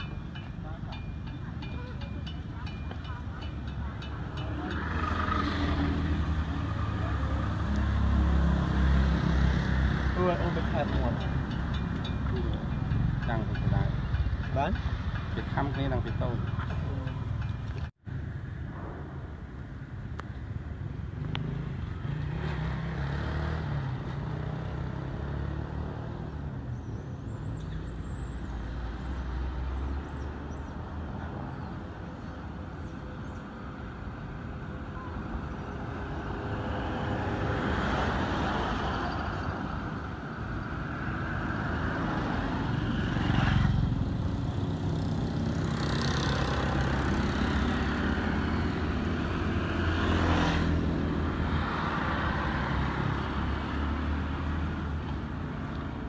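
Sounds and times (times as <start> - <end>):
vehicle engines passing: 0.0 - 56.0.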